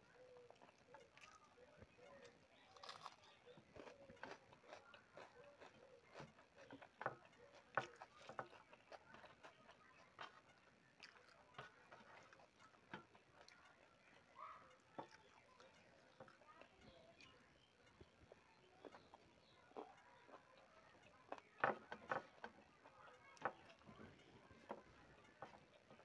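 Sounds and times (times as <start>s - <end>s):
fingers mixing food on metal plate: 0.0s - 26.0s
soft wet chewing: 0.0s - 26.0s.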